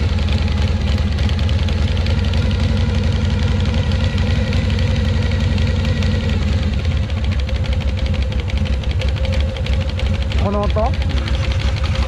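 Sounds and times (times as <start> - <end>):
fast clatter: 0.0 - 12.0
motorcycle engine idling: 0.0 - 12.0.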